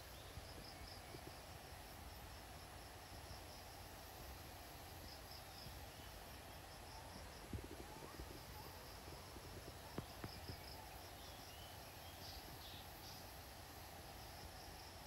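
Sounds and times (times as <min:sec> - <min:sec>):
insects chirping trill: 0:00.0 - 0:15.0.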